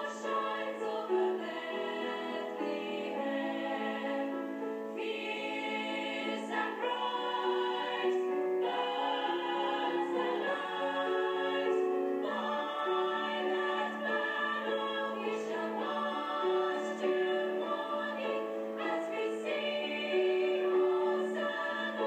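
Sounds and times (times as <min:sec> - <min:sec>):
group singing in harmony: 0:00.0 - 0:22.0.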